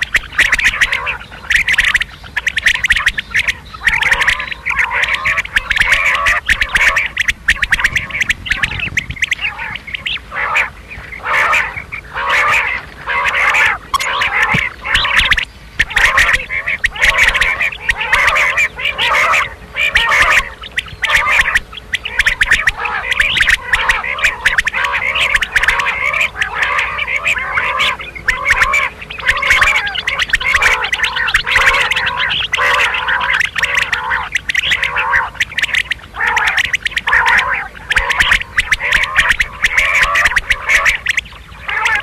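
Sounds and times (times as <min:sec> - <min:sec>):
quail calling: 0:00.0 - 0:42.0.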